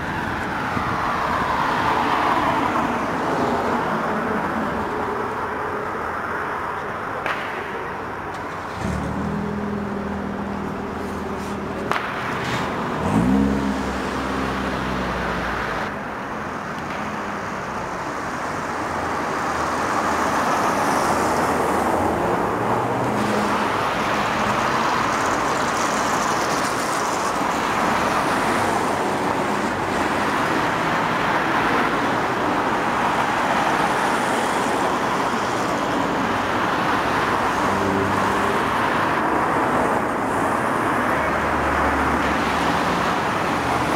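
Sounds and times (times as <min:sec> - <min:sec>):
cars driving past: 0:00.0 - 0:43.9.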